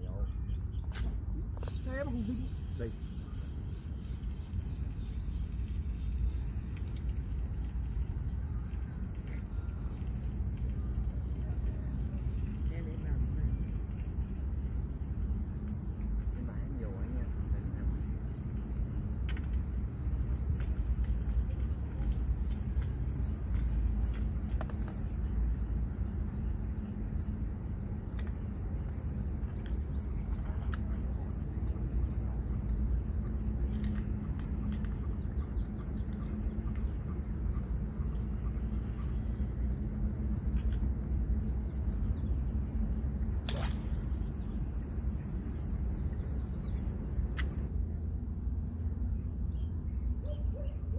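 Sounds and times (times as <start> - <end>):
small birds chirping: 0.0 - 50.9
steady low rumble: 0.0 - 50.9.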